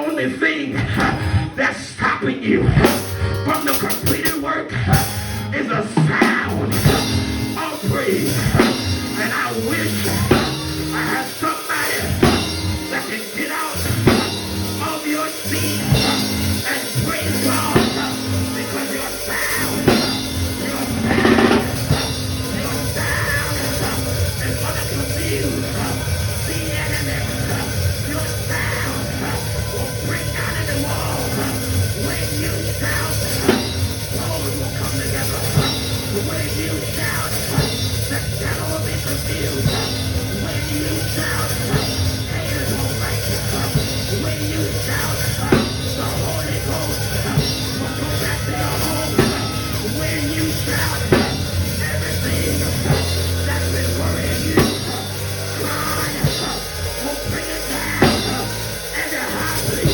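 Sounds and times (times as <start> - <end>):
live church band: 0.0 - 59.9
drum kit: 2.8 - 59.9
low bass: 6.5 - 13.2, 13.8 - 59.9.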